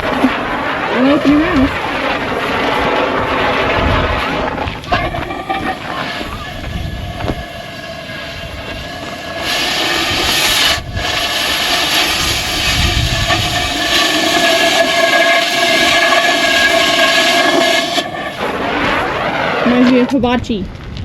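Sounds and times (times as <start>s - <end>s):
steady hum: 0.0s - 19.8s
cutting torch hissing: 0.0s - 20.4s.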